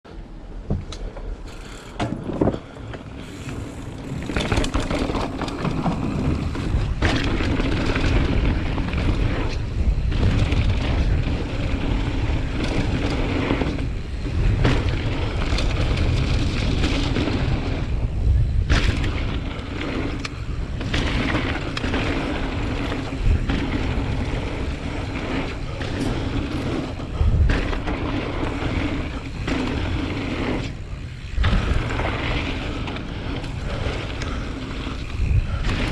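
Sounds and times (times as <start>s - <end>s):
bike tyres rattling over dirt: 0.1s - 35.9s
wind rumbling on microphone: 0.1s - 35.9s.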